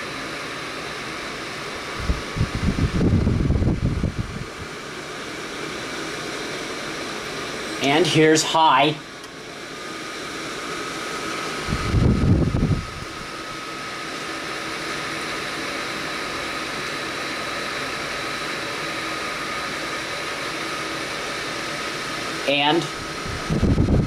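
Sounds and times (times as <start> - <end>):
fan air rush with whine: 0.0 - 24.0.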